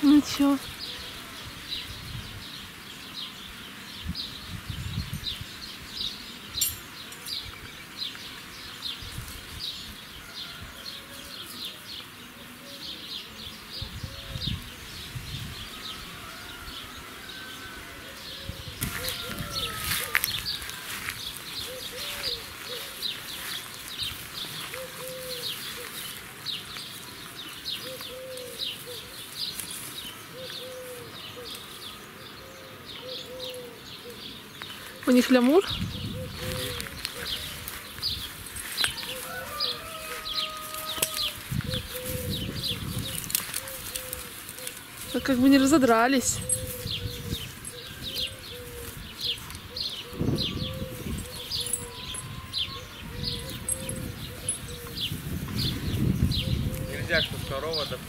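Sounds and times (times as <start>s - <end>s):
birds chirping and calling: 0.0s - 58.0s.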